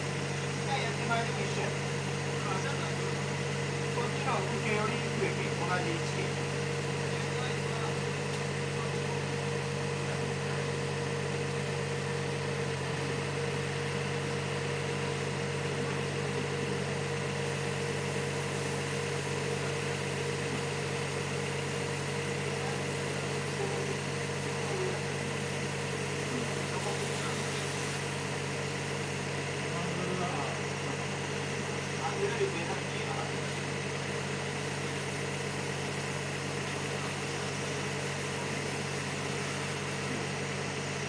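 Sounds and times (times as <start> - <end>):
machinery humming: 0.0 - 41.0.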